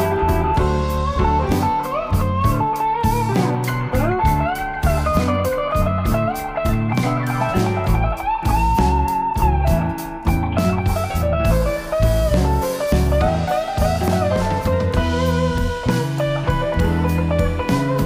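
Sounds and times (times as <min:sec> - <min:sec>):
guitar-led instrumental music: 0:00.0 - 0:18.0.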